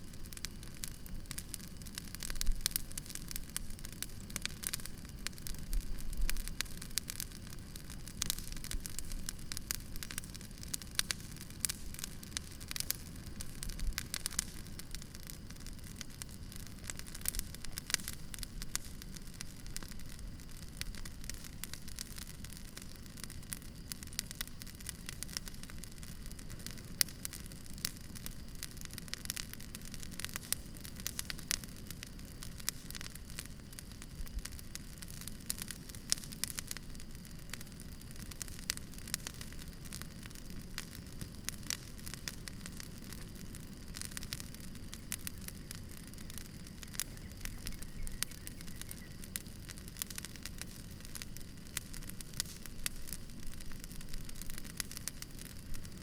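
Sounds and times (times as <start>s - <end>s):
campfire crackling and popping: 0.0s - 56.0s
low rumble of fire: 0.0s - 56.0s.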